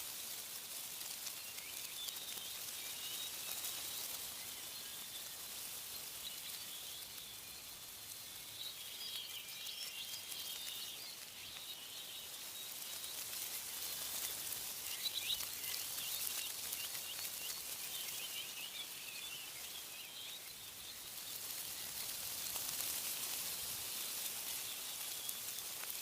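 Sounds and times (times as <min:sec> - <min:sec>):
small songbirds chirping: 0:00.0 - 0:26.0
wind in tree leaves: 0:00.0 - 0:26.0.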